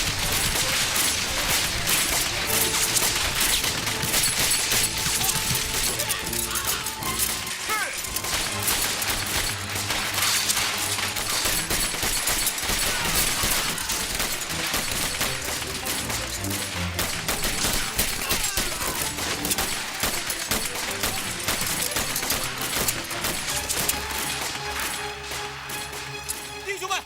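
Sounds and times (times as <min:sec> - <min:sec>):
rapid gunfire: 0:00.0 - 0:26.1.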